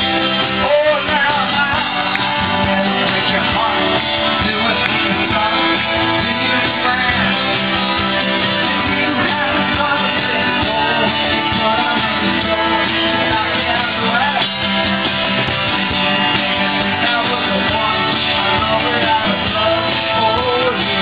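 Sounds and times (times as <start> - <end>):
man singing: 0.0 - 15.0, 16.2 - 21.0
strummed acoustic guitars: 0.0 - 21.0.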